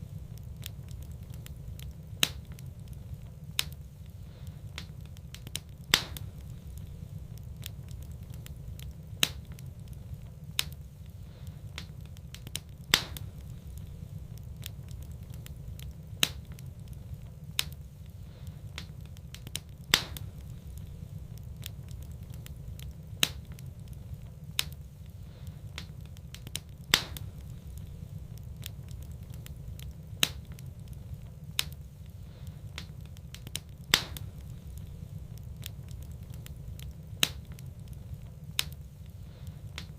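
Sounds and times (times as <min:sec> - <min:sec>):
steady low rumble: 0:00.0 - 0:39.9
wood fire crackling and popping: 0:00.0 - 0:39.9.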